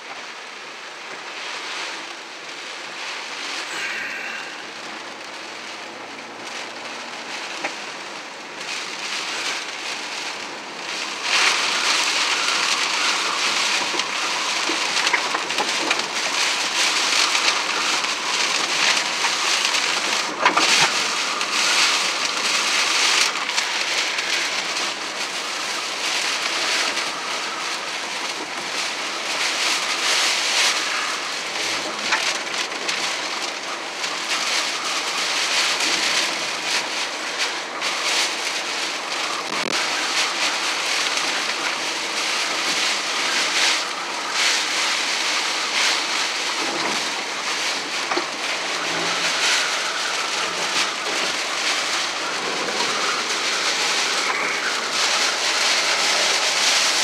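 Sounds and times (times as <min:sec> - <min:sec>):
heavy rain on a car: 0:00.0 - 0:57.0.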